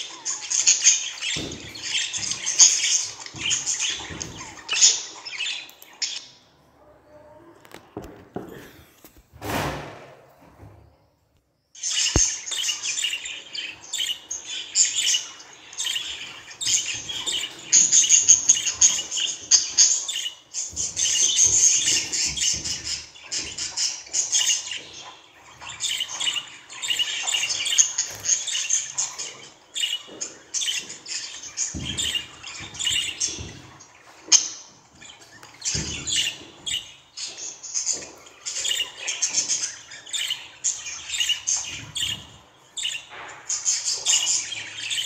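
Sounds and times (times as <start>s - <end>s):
budgerigars chirping and warbling: 0.0s - 6.4s, 11.8s - 45.0s.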